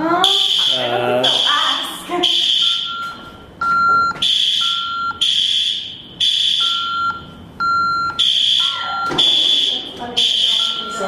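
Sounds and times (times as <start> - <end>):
fire alarm blasts: 0.2 - 11.0
low steady beep: 0.3 - 11.0.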